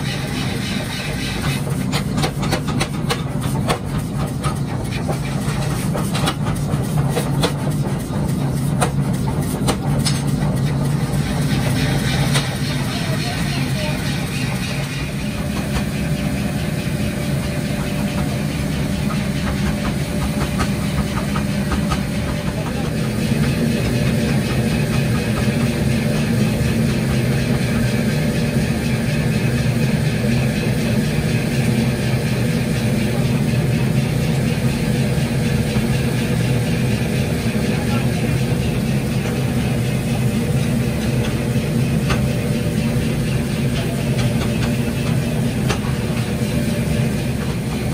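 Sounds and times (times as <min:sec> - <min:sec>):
machine drone: 0:00.0 - 0:47.9.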